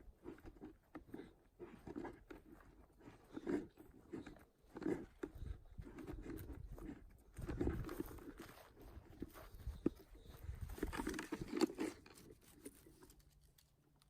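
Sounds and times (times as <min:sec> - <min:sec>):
footsteps crunching on forest floor: 0:00.2 - 0:13.7.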